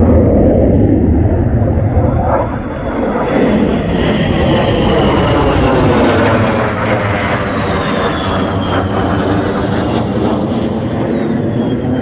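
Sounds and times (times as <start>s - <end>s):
fighter jet roar: 0.0s - 12.0s.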